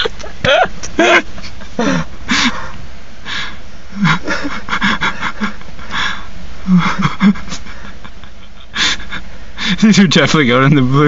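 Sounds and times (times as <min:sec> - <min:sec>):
stifled breathy laughter: 0:00.0 - 0:09.8.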